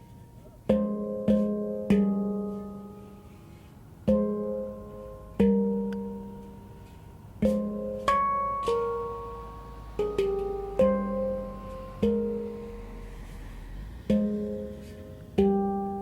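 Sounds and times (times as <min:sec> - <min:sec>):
handpan notes ringing: 0:00.0 - 0:16.0.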